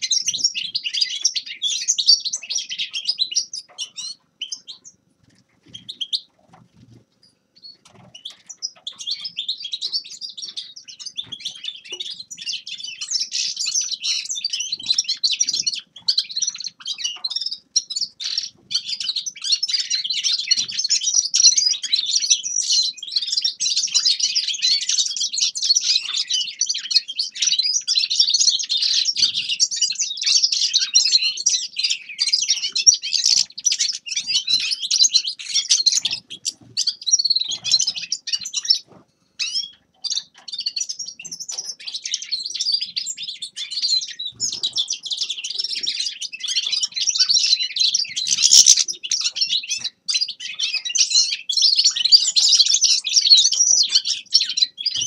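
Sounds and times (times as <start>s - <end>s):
finch singing: 0.0s - 5.0s, 5.6s - 55.0s.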